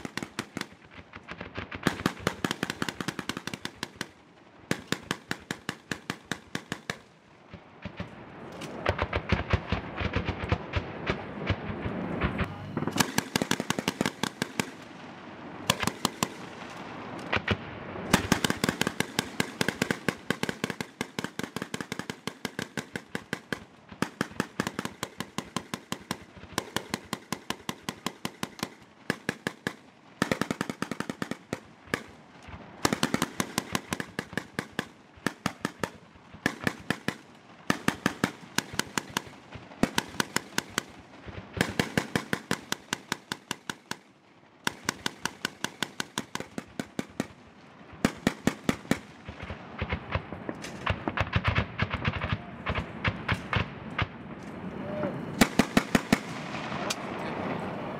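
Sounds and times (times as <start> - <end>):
automatic gunfire: 0.0 - 7.1, 8.7 - 15.0, 15.6 - 47.4, 48.0 - 54.1, 55.4 - 57.0.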